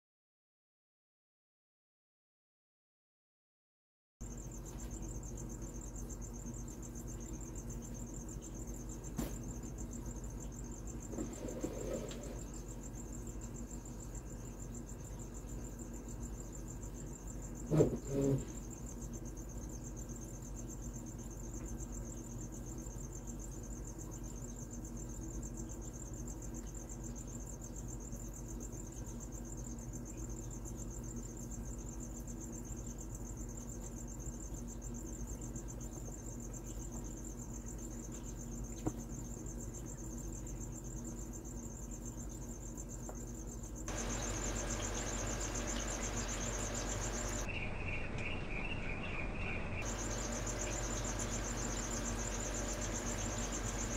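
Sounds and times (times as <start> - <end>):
crickets trilling: 4.2 - 53.9
low steady hum: 4.2 - 53.9
lower pulsing chirp: 4.2 - 53.9.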